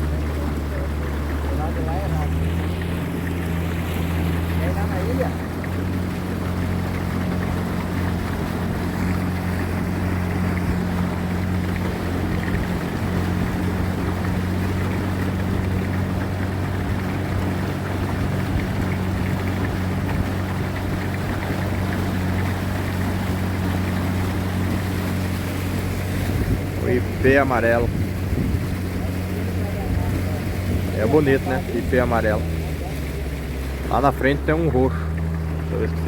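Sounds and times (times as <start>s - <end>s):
outboard motor humming: 0.0s - 36.0s.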